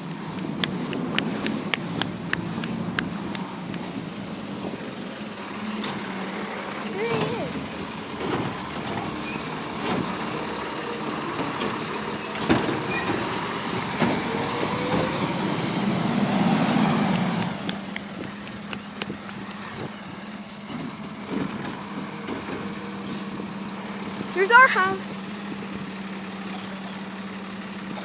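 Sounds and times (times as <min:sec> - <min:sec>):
garbage truck running: 0:00.0 - 0:28.0.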